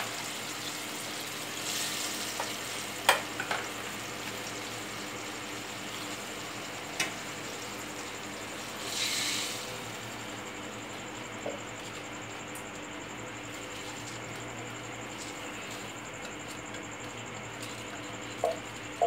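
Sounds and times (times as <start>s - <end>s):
faint steady sizzle: 0.0s - 19.0s.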